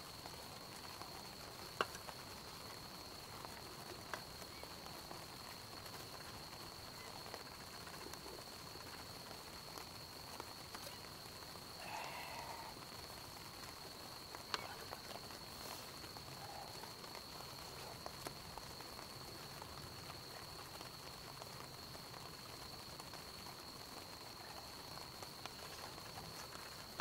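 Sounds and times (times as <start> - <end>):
campfire crackling: 0.0 - 27.0
fire pops and snaps: 0.0 - 27.0.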